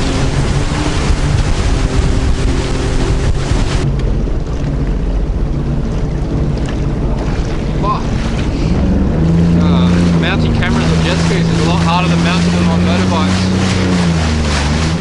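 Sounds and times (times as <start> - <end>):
jet ski engine running: 0.0 - 15.0
water wash: 0.0 - 15.0
wind on microphone: 0.0 - 15.0.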